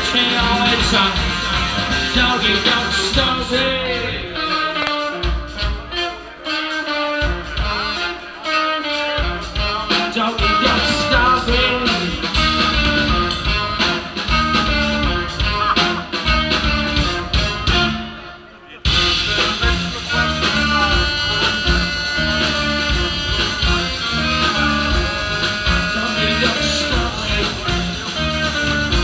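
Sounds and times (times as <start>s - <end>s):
guitar: 0.0s - 29.0s
live band playing: 0.0s - 29.0s.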